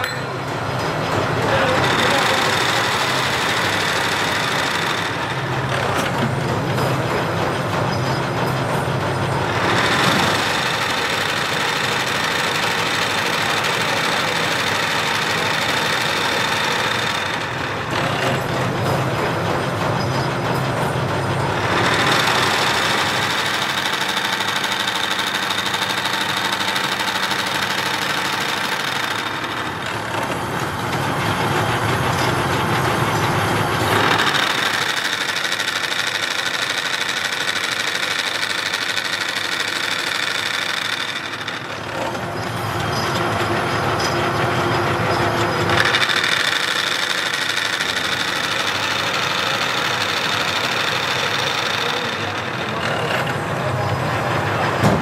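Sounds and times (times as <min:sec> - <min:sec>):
machine drone with high whine: 0:00.0 - 0:55.0.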